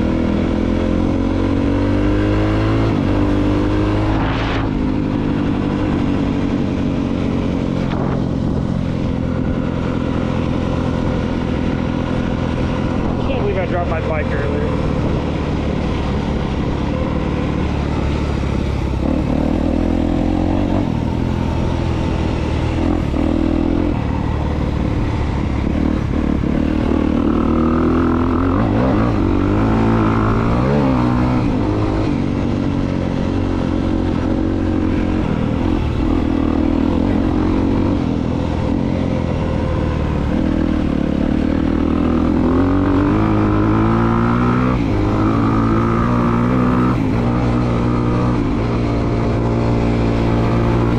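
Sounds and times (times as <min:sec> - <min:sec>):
dirt bike engine revving: 0:00.0 - 0:06.1, 0:07.8 - 0:50.9.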